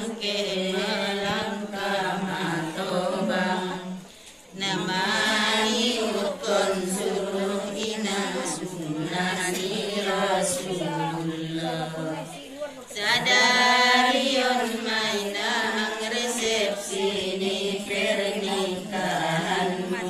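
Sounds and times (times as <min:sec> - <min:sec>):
women's group singing unaccompanied: 0:00.0 - 0:20.0.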